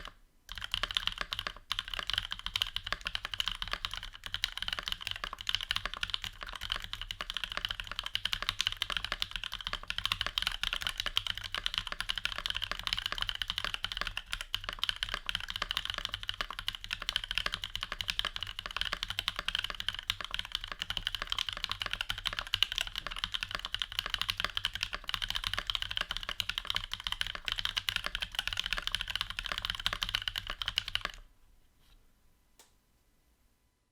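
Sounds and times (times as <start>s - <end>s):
fast typing on mechanical keyboard: 0.0s - 31.2s.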